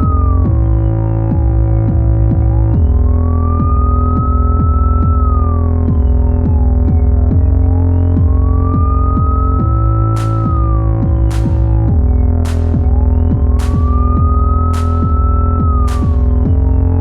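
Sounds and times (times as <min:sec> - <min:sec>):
drum machine beat: 0:00.0 - 0:16.8
electronic synth music: 0:00.0 - 0:17.0
police siren wailing: 0:00.0 - 0:17.0.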